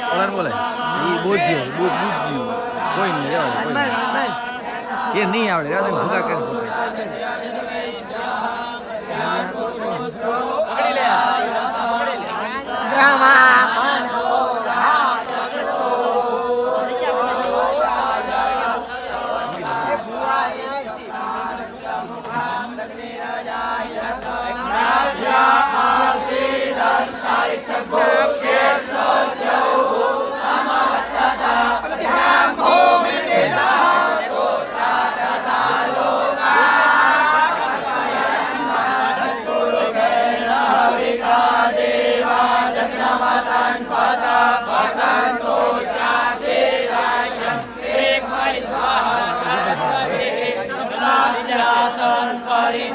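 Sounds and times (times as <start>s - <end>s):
group chanting in unison: 0.0s - 52.9s.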